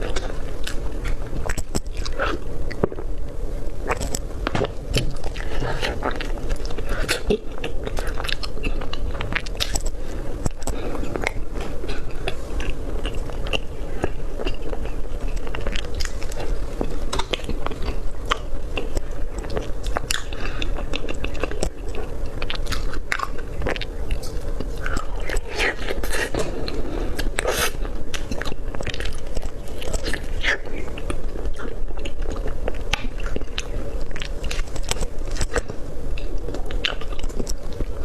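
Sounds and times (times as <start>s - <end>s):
low background hum: 0.0s - 38.0s
mouth chewing and smacking: 0.0s - 38.0s.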